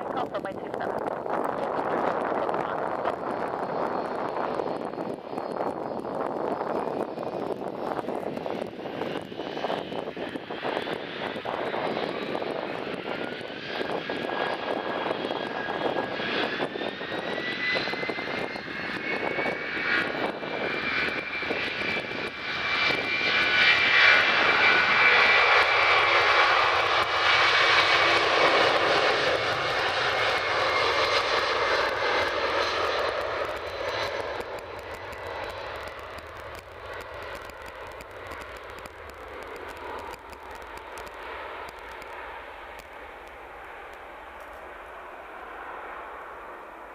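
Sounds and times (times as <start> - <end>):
jet engines spooling up: 0.0 - 46.9.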